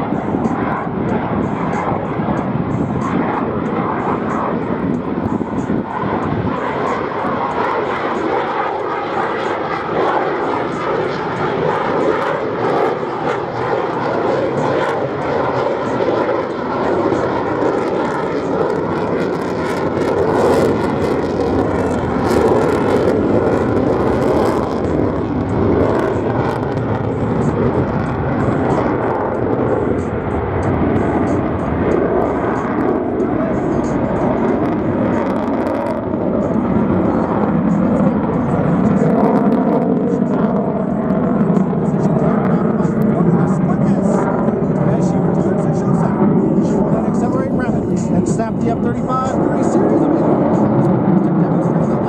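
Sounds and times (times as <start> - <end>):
loud jet noise with crackling: 0.0 - 52.0.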